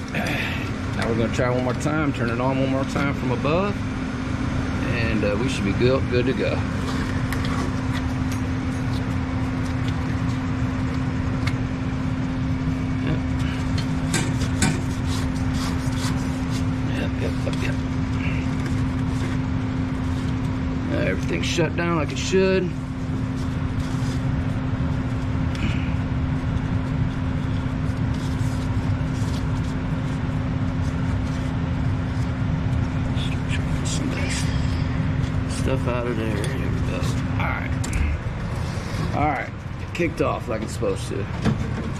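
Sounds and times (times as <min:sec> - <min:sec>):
constant pitched tone: 0:00.0 - 0:41.6
furnace blower motor humming: 0:00.0 - 0:41.9.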